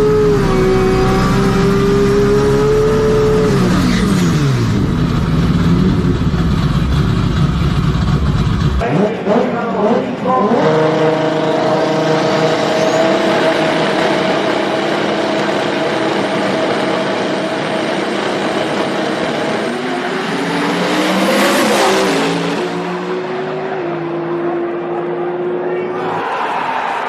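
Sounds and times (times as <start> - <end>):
car engine at high revs: 0.0 - 25.7.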